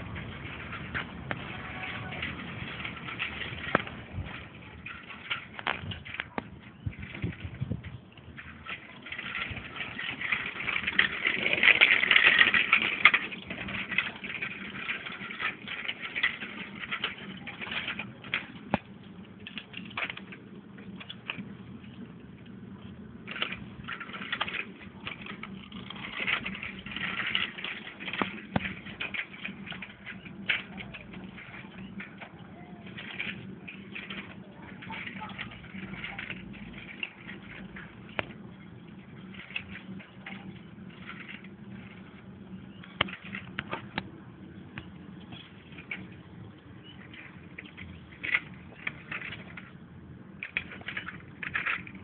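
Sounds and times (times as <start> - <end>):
bicycle clicks and rattles: 0.0 - 52.0
small bicycle rolling on concrete: 0.0 - 52.0.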